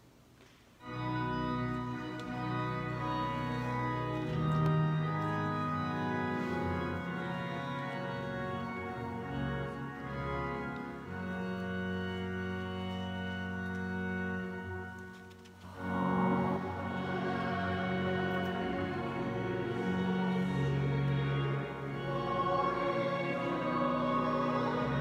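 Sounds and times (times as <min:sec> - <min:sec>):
church organ playing chords: 0:00.8 - 0:25.0.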